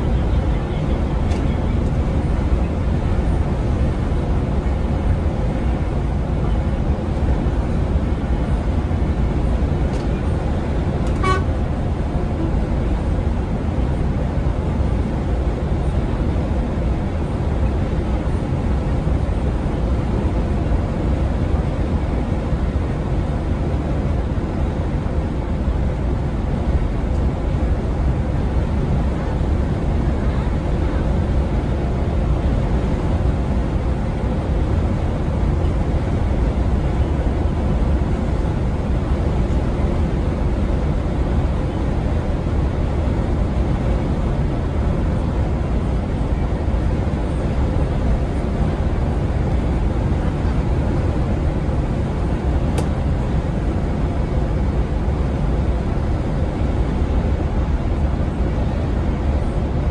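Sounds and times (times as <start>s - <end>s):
coach engine and road drone: 0.0s - 59.9s.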